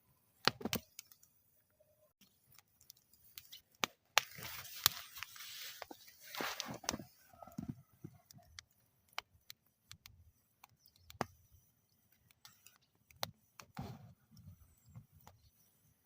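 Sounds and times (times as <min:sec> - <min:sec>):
wood fire crackling and popping: 0:02.3 - 0:15.5.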